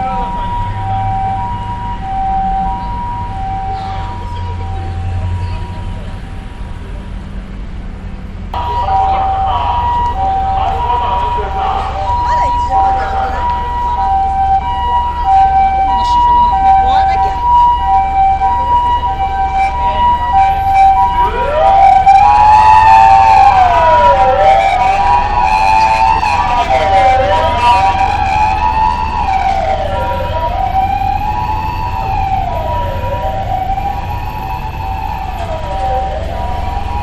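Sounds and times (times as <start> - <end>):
two-tone hi-lo siren: 0.0 - 6.4, 8.6 - 37.0
wailing siren: 0.0 - 6.6, 8.5 - 37.0.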